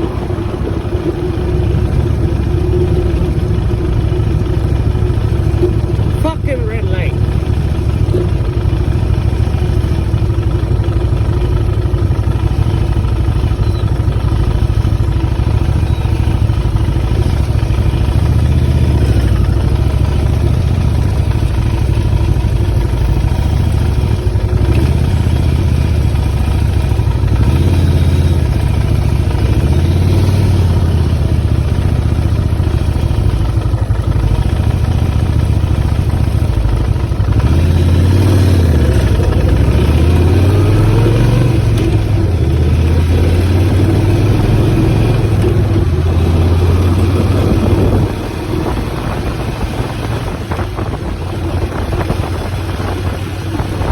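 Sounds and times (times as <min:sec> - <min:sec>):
motorcycle engine droning: 0:00.0 - 0:53.9.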